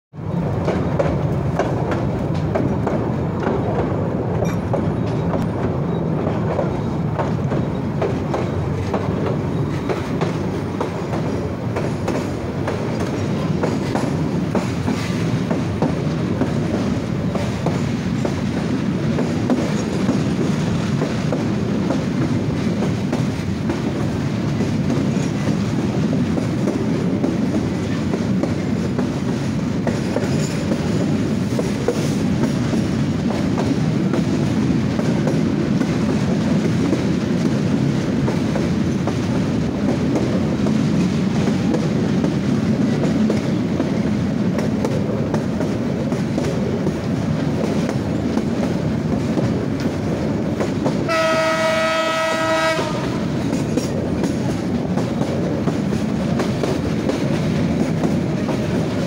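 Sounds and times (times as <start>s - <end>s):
train rumbling: 0.1s - 59.0s.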